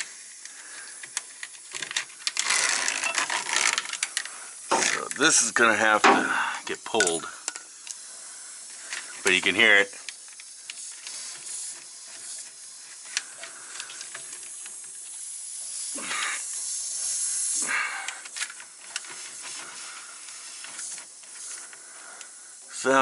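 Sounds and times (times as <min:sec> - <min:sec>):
compressed air hissing: 0:00.0 - 0:23.0.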